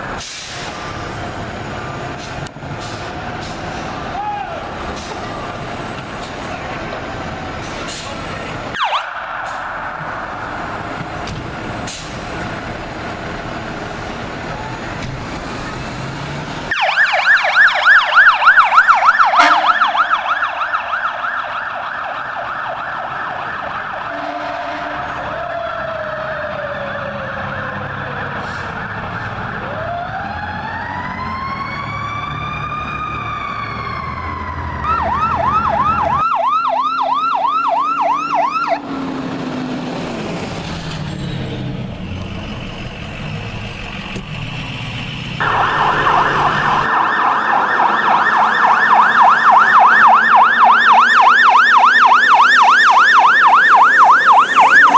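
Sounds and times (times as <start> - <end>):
diesel engine: 0.0 - 54.9
fire truck sirens: 0.0 - 54.9
traffic noise: 0.0 - 54.9.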